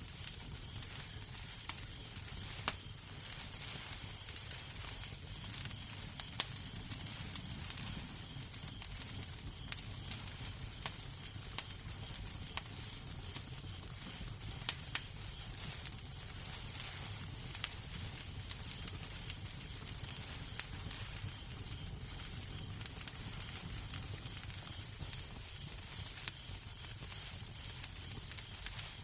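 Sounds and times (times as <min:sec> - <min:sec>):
low fire rumble and hiss: 0:00.0 - 0:29.0
wood fire crackling: 0:00.0 - 0:29.0.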